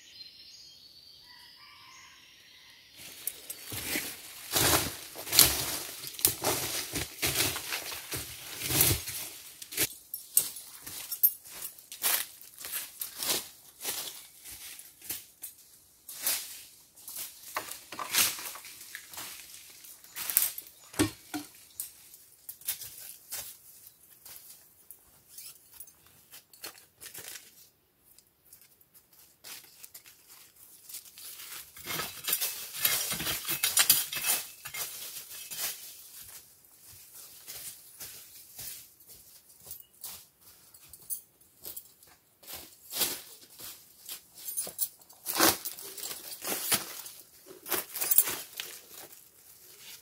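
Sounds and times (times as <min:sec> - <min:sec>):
dry leaves and twigs crunching: 0:03.0 - 0:27.7, 0:28.4 - 0:50.0.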